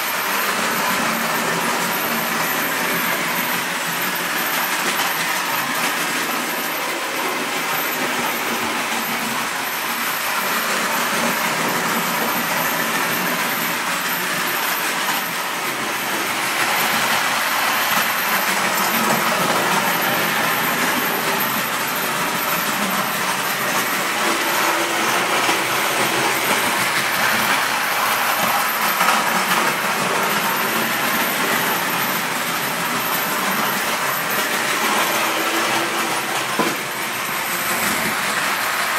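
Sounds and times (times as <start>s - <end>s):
toy trains running on track: 0.0s - 38.9s.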